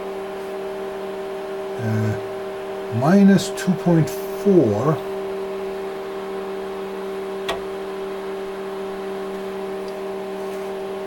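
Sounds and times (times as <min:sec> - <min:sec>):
oscilloscope steady hum: 0:00.0 - 0:11.0.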